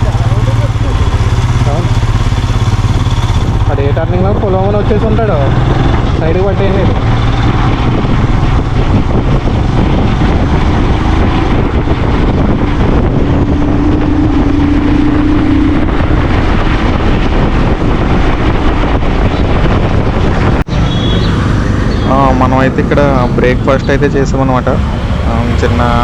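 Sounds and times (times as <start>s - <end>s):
motorcycle engine: 0.0s - 26.0s
road noise: 0.0s - 26.0s
wind buffeting microphone: 0.0s - 26.0s.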